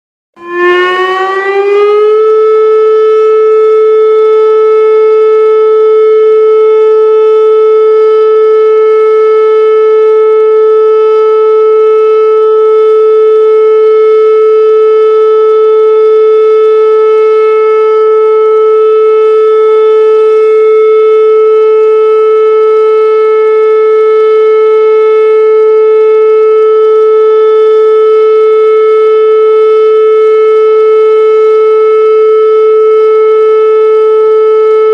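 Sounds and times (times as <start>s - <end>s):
warning siren: 0.4s - 34.9s.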